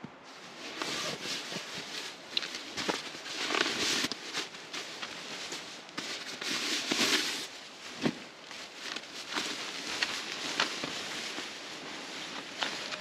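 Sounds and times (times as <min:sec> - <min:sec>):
rustling and crinkling: 0:00.2 - 0:13.0.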